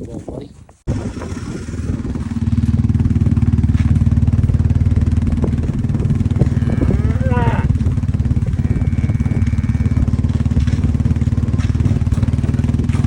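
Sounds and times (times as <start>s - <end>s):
off-road vehicle engine running: 0.9s - 13.0s.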